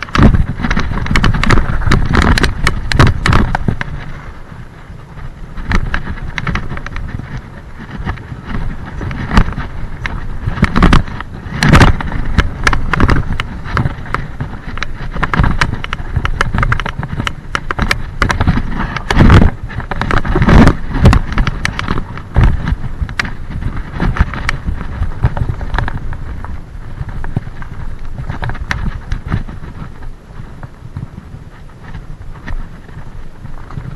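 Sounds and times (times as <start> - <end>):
bike clattering over bumps: 0.0 - 33.9
tyres rumbling on gravel: 0.0 - 33.9
wind rushing over microphone: 0.0 - 33.9.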